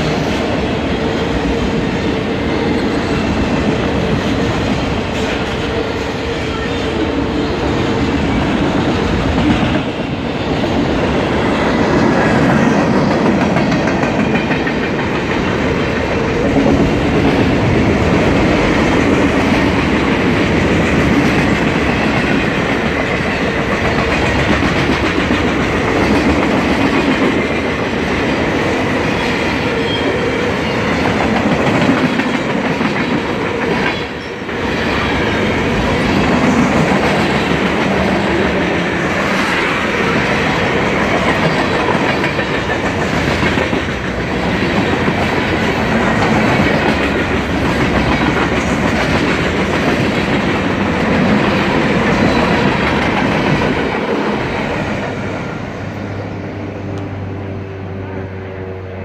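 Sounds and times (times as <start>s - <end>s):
freight train rattling on rails: 0.0s - 59.0s.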